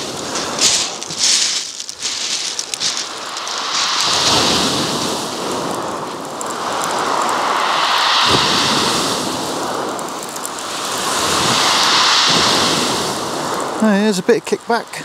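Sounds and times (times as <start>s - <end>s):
waves on a shingle beach: 0.0s - 15.0s.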